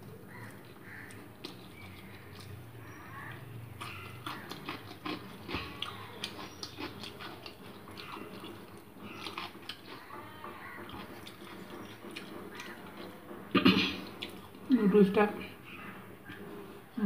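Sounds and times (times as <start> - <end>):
person chewing noodles: 0.0 - 14.7.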